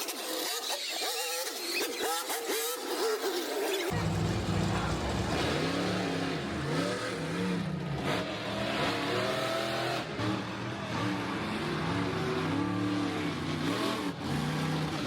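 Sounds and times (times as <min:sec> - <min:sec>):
monster truck engine revving: 0:00.1 - 0:15.0.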